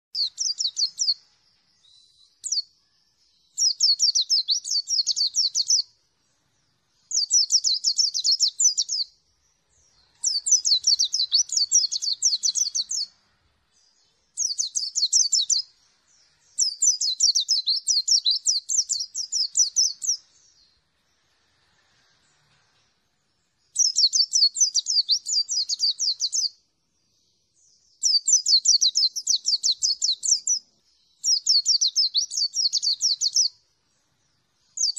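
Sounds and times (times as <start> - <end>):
bird twittering song: 0.2 - 34.9.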